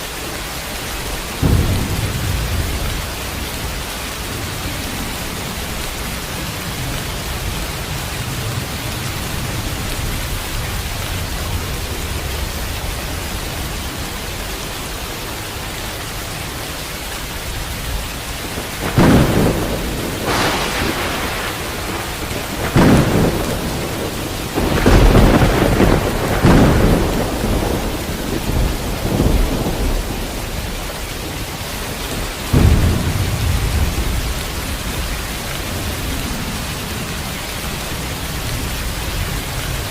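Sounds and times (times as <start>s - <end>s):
steady rain: 0.0s - 39.9s
thunder cracks and rumbles: 1.2s - 14.5s, 17.9s - 39.9s.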